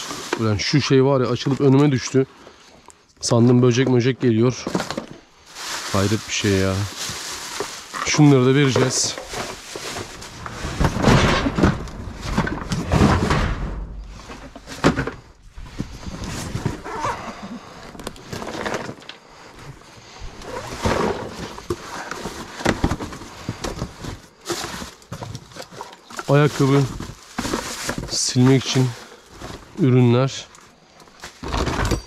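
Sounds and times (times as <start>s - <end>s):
cardboard and plastic bags rustling: 0.0s - 2.3s, 3.3s - 32.0s.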